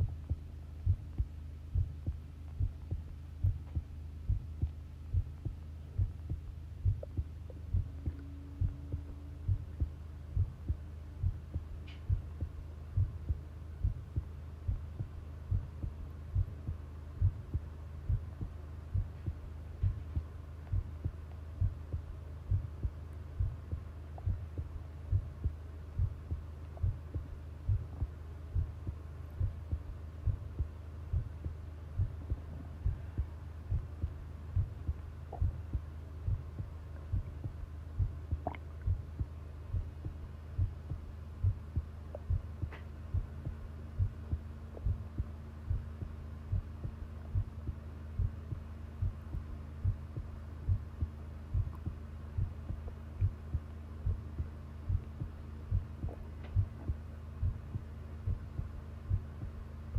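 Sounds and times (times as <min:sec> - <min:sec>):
faint steady tone: 0:00.0 - 0:59.9
heartbeat thuds: 0:00.0 - 0:59.9
low hum: 0:00.0 - 0:59.9.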